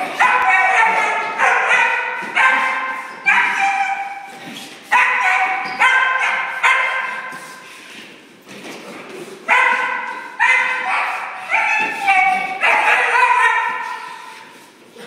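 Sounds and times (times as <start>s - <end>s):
puppy barking: 0.0s - 7.6s, 9.5s - 14.5s.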